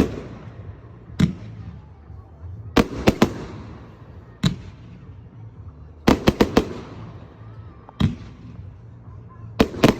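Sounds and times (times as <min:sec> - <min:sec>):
fireworks bangs with echo: 0:00.0 - 0:09.9.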